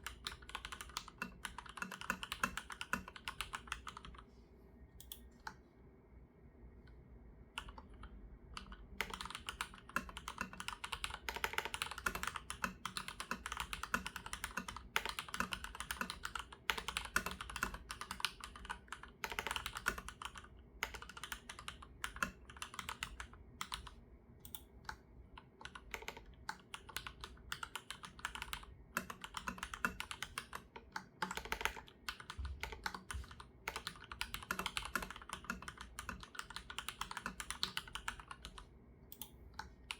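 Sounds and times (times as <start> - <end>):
mechanical keyboard typing: 0.0 - 4.2, 7.6 - 39.9.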